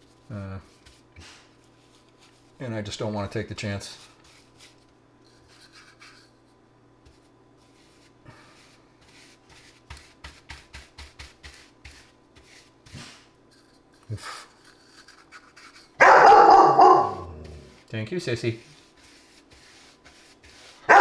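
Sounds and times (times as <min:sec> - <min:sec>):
paintbrush stroking on board: 0:00.0 - 0:02.6, 0:03.8 - 0:16.0, 0:17.0 - 0:21.0.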